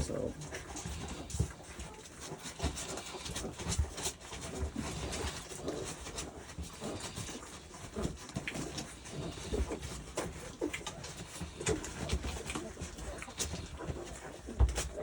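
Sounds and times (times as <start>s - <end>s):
puppies whimpering: 0.0s - 15.0s
soft bumps and shuffling: 0.0s - 15.0s.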